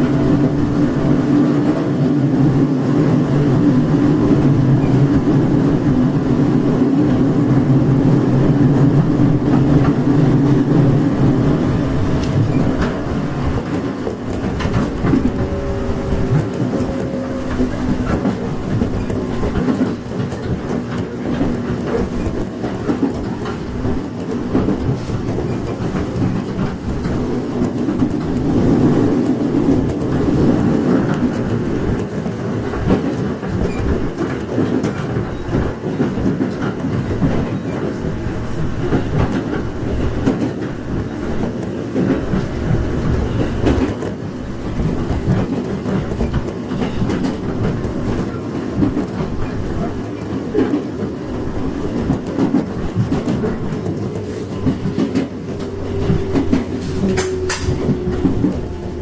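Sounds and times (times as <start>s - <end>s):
clickety-clack of rail joints: 0.0s - 59.0s
train wheels rumbling on rail: 0.0s - 59.0s.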